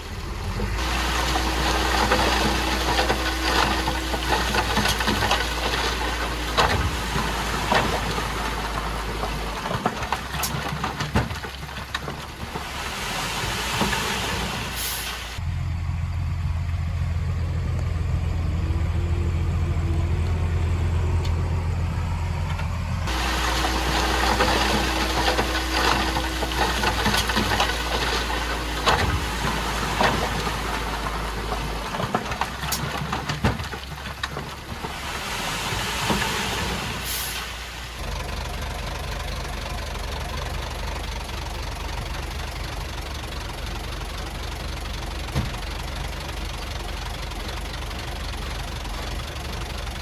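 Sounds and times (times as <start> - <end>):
bulldozer diesel engine: 0.0 - 50.0.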